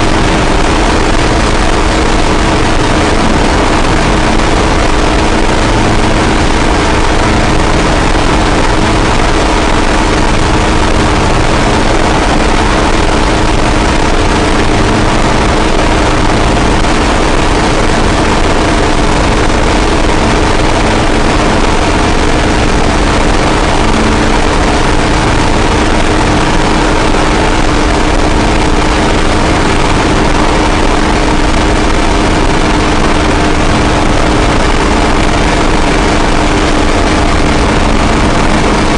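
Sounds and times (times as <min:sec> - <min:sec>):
distorted noise: 0:00.0 - 0:38.9
steady low drone: 0:00.0 - 0:38.9.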